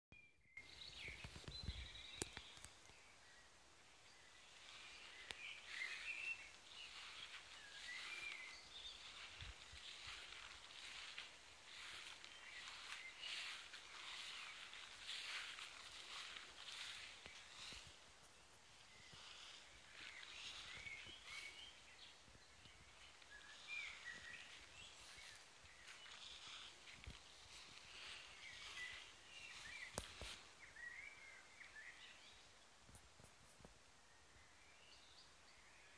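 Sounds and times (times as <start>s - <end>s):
faint birdsong: 0.1s - 35.9s
outdoor background hiss: 0.5s - 35.9s.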